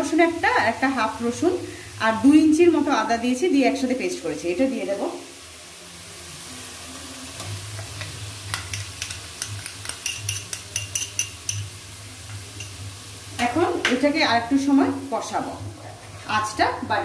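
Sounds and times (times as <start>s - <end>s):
oil sizzling in a wok: 0.0s - 17.0s.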